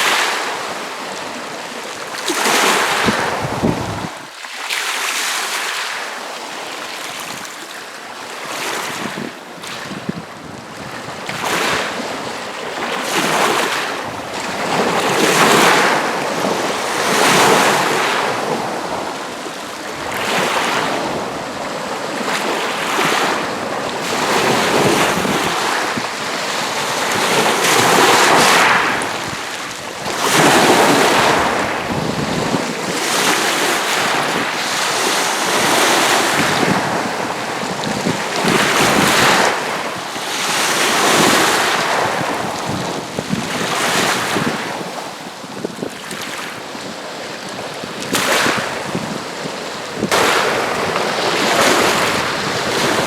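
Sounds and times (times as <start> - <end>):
waves washing against shore: 0.0 - 53.0.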